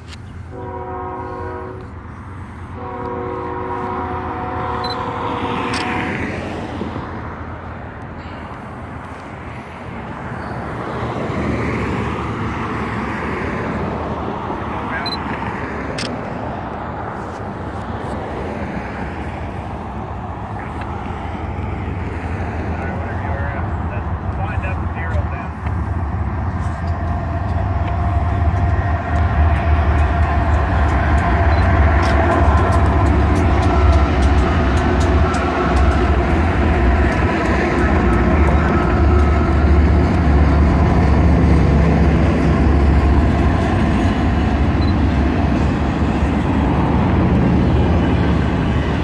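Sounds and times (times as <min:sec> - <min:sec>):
diesel locomotives rumbling: 0:00.0 - 0:49.0.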